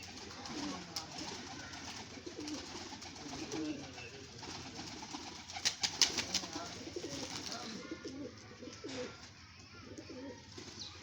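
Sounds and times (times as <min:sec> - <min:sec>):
pigeons cooing: 0:00.0 - 0:09.2, 0:09.8 - 0:10.9.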